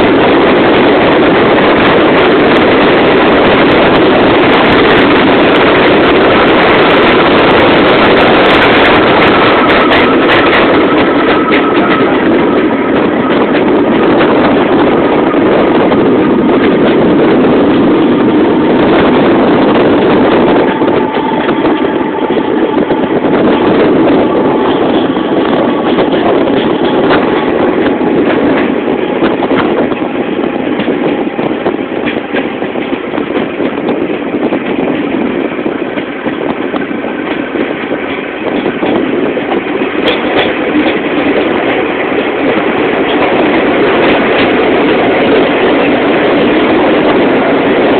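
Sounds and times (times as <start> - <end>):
train clicks: 0.0 - 47.9
train rumbling in tunnel: 0.0 - 47.9.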